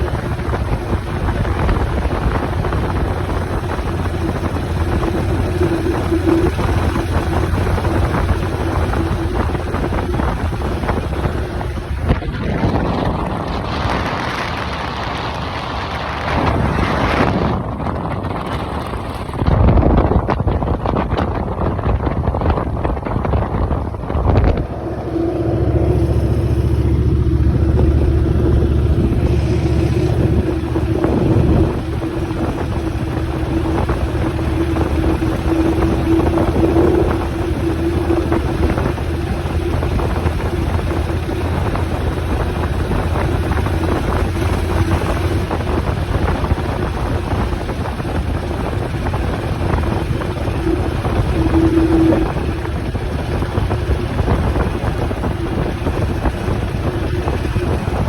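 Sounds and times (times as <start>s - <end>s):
motorcycle engine running: 0.0s - 58.0s
steady whine: 0.0s - 58.0s
wind on microphone: 0.0s - 58.0s.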